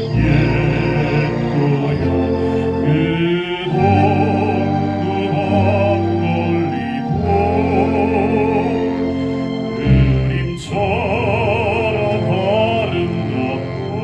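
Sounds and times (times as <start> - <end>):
baritone operatic singing: 0.0 - 14.0
orchestral accompaniment: 0.0 - 14.0.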